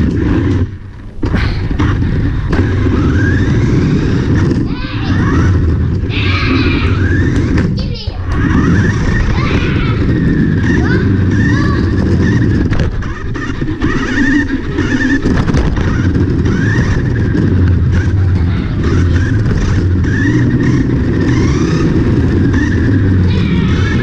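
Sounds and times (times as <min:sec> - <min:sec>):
wheels rolling on floor: 0:00.0 - 0:24.0
toy car motor whining: 0:02.4 - 0:24.0.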